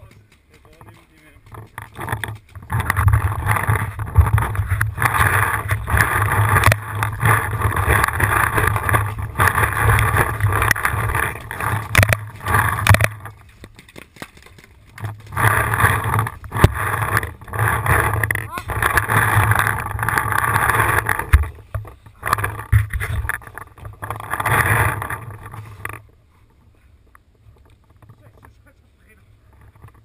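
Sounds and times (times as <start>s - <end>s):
camera rubbing rumble: 0.0s - 30.0s.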